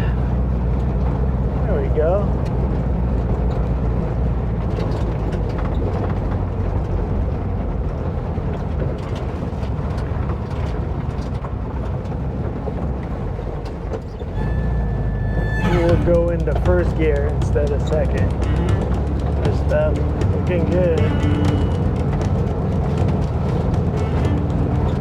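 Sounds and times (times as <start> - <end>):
bus engine running: 0.0 - 25.0
knocks and rattles: 0.0 - 25.0.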